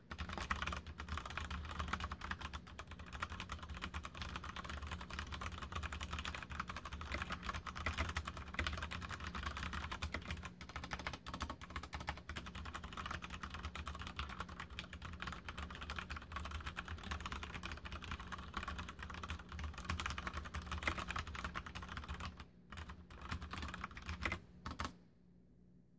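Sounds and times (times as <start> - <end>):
mechanical keyboard typing: 0.1 - 25.0.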